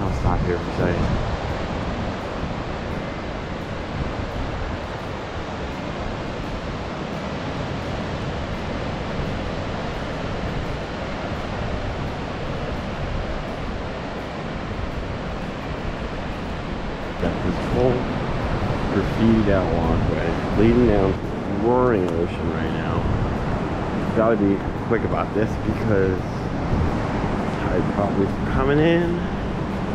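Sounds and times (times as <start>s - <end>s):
ocean waves breaking on rocks: 0.0s - 29.9s
wind rumbling on microphone: 0.0s - 29.9s.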